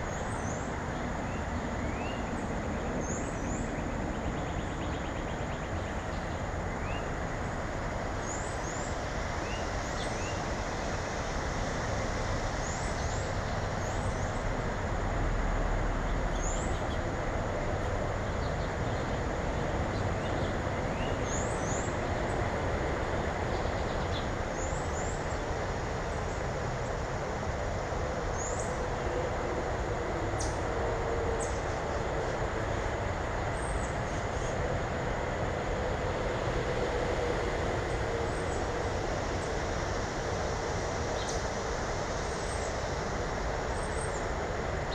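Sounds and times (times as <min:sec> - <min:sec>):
steady rushing noise: 0:00.0 - 0:44.9.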